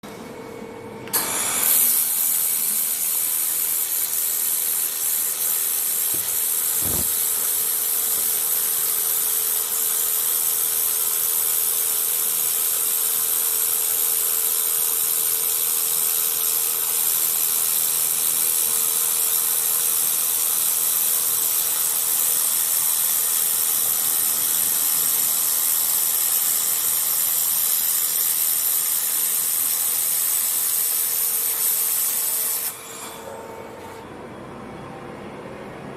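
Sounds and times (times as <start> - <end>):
laser welder high-pitched hiss: 1.1 - 33.4.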